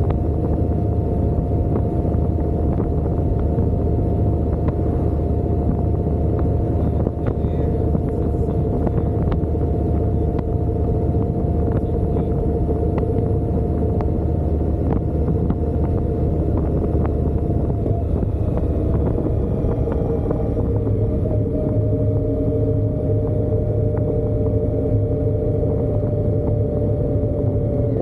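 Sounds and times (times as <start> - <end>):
low rumble: 0.0 - 28.0
motorcycle engine running: 0.0 - 28.0.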